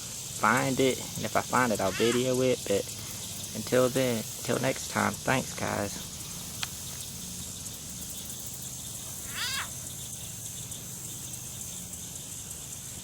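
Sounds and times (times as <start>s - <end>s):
hatchling alligator chirp: 0.0s - 13.0s.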